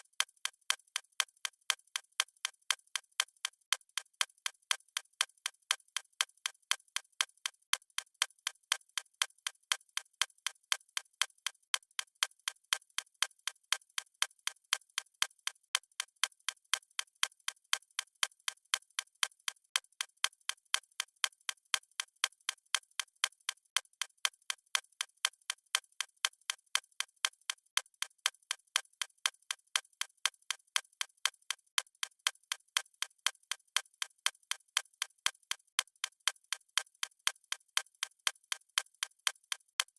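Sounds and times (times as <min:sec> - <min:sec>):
watch ticking: 0:00.0 - 0:11.6, 0:18.5 - 0:39.9.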